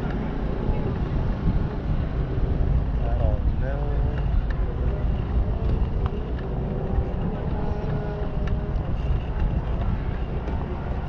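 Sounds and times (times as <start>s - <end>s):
faint engine drone: 0.0s - 11.0s
wind buffeting microphone: 0.0s - 11.0s.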